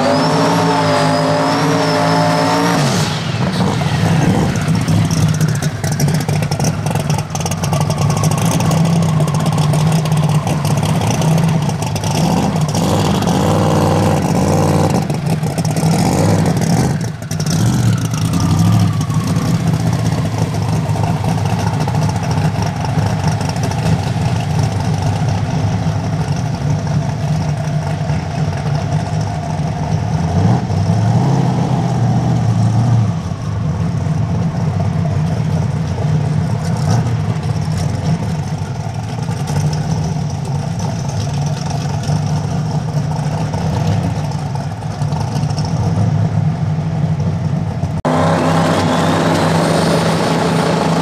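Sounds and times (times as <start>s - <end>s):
car engine idling lumpily: 3.2s - 31.1s, 32.4s - 51.0s.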